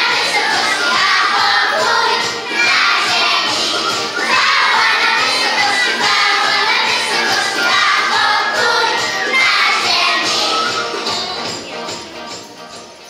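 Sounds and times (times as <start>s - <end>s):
children singing together: 0.0s - 11.6s.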